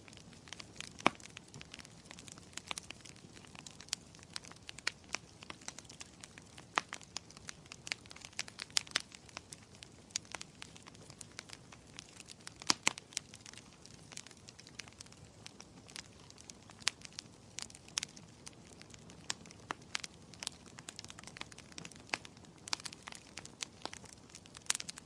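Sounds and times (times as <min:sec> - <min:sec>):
fire crackling and popping: 0:00.0 - 0:25.0
soft low hiss of fire: 0:00.0 - 0:25.0.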